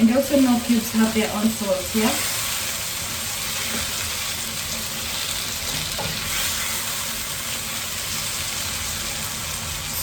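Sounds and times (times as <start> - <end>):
tomatoes sizzling in a pan: 0.0 - 10.0.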